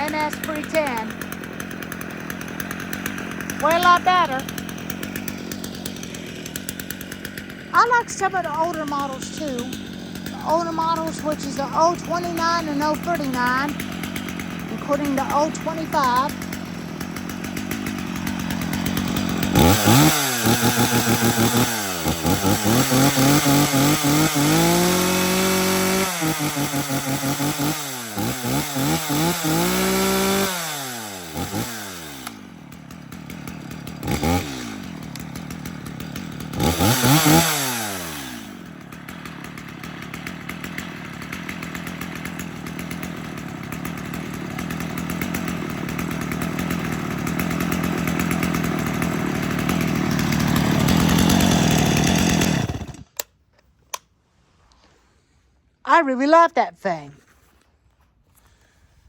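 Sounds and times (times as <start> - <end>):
chainsaw revving and idling: 0.0 - 53.3, 55.8 - 58.8.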